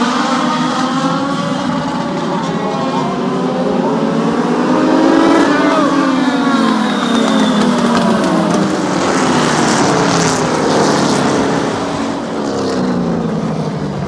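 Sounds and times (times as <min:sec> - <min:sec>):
race car engines running: 0:00.0 - 0:14.0.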